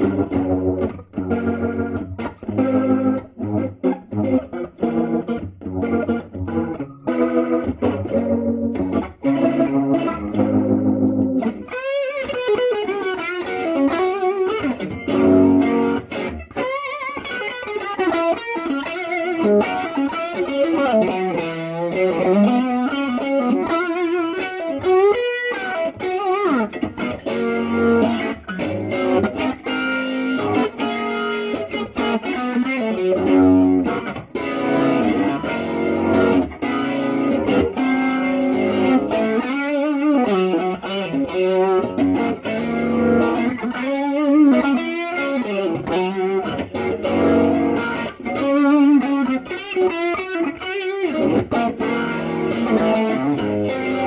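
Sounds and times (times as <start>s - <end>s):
warbling electric guitar: 0.0s - 54.0s.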